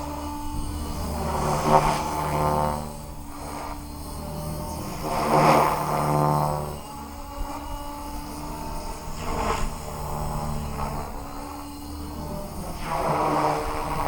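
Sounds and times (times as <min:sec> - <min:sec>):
model helicopter rotor hum: 0:00.0 - 0:14.0.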